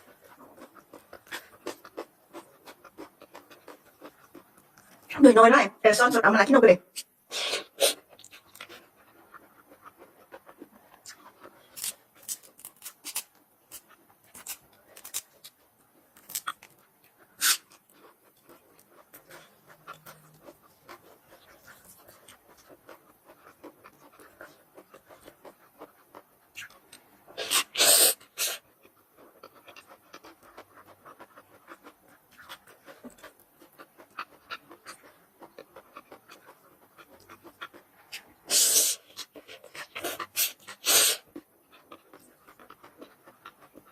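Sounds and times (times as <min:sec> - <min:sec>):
chewing with crunches: 0:00.0 - 0:05.2, 0:07.6 - 0:43.9.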